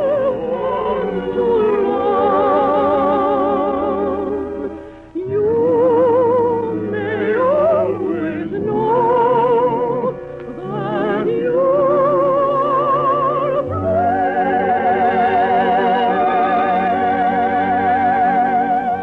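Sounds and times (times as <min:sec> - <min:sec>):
operatic solo singing: 0:00.0 - 0:19.0
orchestral accompaniment: 0:00.0 - 0:19.0.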